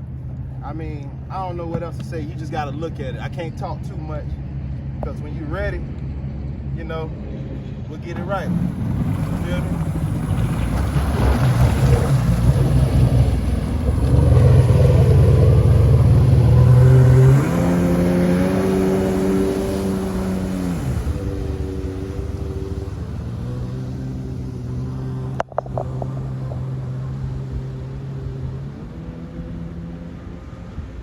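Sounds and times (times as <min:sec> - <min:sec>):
jet ski engine running: 0:00.0 - 0:31.0.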